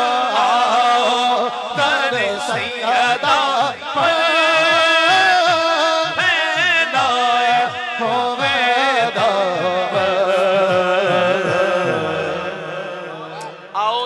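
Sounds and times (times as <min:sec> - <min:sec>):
man singing melismatic phrase: 0:01.8 - 0:14.0.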